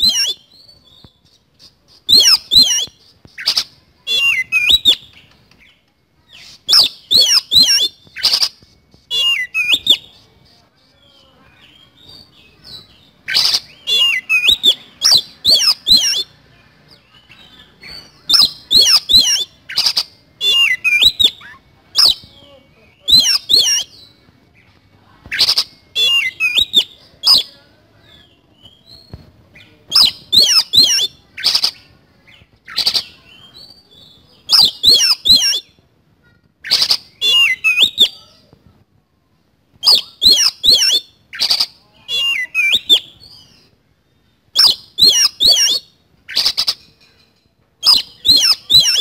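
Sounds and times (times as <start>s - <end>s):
bird singing harsh song: 0.0s - 38.7s, 39.7s - 49.0s.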